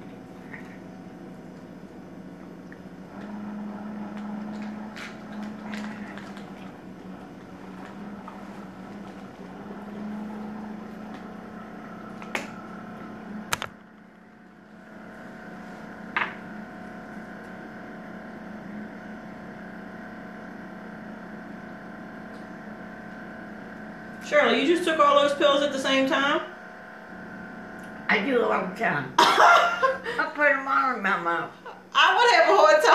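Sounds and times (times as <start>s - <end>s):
electrical appliance hum: 0.0s - 32.9s.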